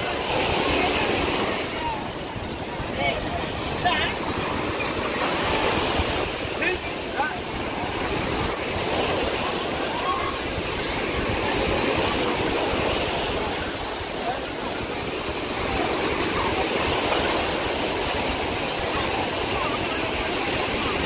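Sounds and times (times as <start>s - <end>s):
faint crowd chatter: 0.0s - 21.0s
sea surf washing onto beach: 0.0s - 21.0s.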